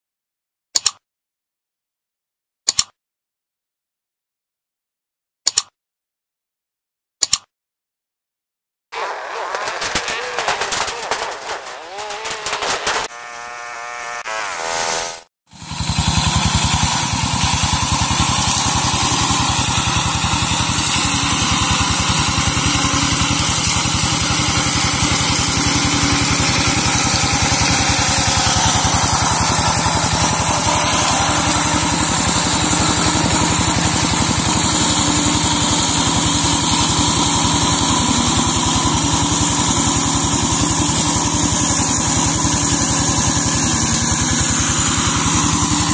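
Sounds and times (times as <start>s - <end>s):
mower engine running: 9.0s - 45.9s.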